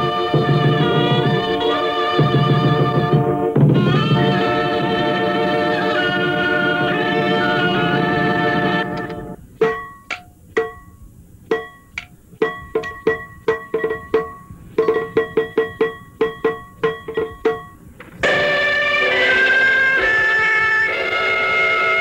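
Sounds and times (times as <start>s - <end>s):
pitched percussion strokes: 0.0s - 22.0s.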